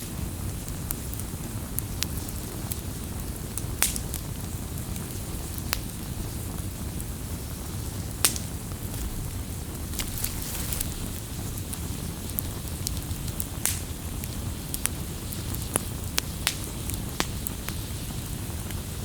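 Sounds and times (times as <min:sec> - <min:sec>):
campfire flame rushing: 0:00.1 - 0:19.0
burning wood popping: 0:00.2 - 0:19.0.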